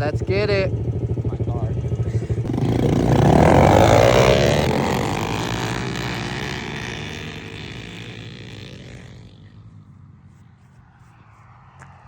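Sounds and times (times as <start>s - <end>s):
pit bike engines revving: 0.0s - 10.4s.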